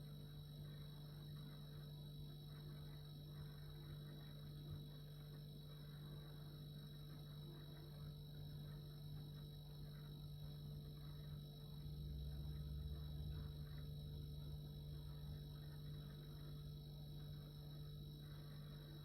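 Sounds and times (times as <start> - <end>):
refrigerator humming: 0.0 - 19.0.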